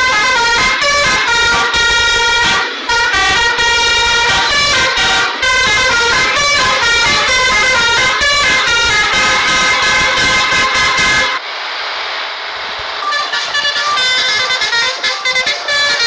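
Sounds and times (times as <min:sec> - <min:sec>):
multi-tone air horn melody: 0:00.0 - 0:11.4, 0:13.0 - 0:16.0.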